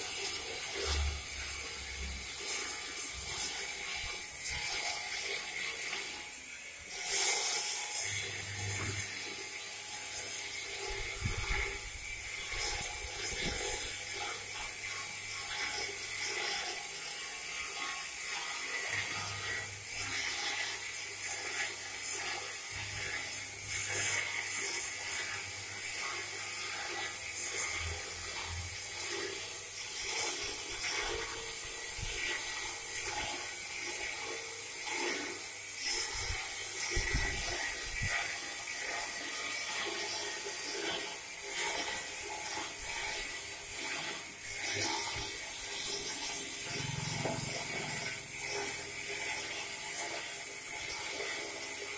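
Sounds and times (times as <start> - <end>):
electric motor hum: 0.0 - 51.9.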